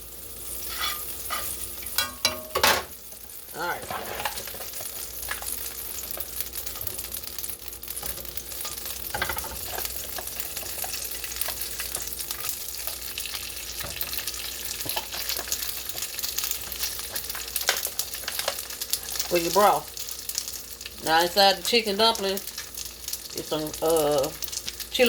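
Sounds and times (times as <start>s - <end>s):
dumplings sizzling in oil: 0.0s - 25.0s.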